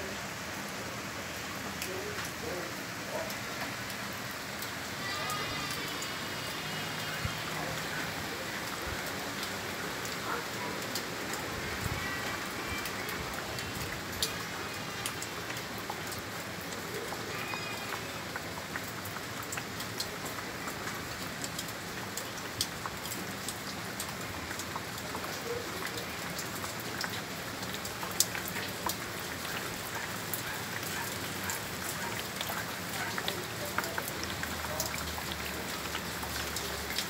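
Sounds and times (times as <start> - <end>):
heavy rain hiss: 0.0 - 36.9
sharp ticks of raindrops: 0.0 - 37.0.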